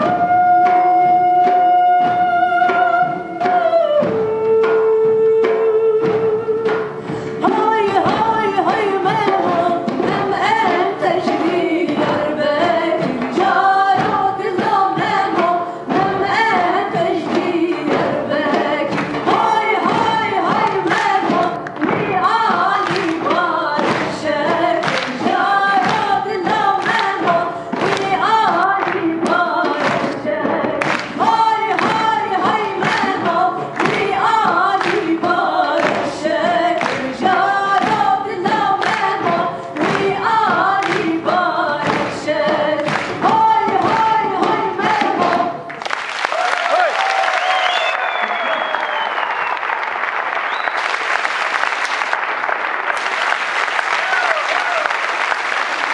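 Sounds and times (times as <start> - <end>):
drums steady beat: 0.0 - 45.8
women singing folk song: 0.0 - 45.8
live band playing: 0.0 - 46.0.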